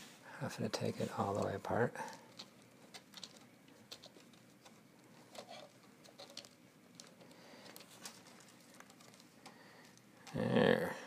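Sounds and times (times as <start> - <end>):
wires and plastic rustling: 0.0 - 11.0.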